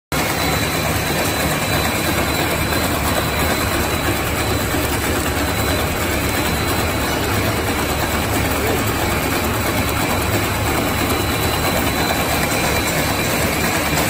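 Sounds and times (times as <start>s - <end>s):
snack extruder machine running: 0.1s - 14.0s
faint high machine whine: 0.2s - 14.0s.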